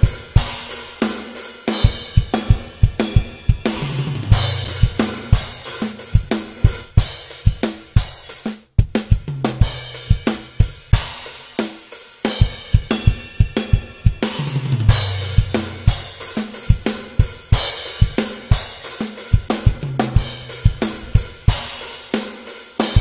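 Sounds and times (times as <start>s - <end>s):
hi-hats and cymbals: 0.0s - 23.0s
snare drum: 0.0s - 23.0s
fast kick drum: 1.7s - 11.2s, 12.3s - 21.8s.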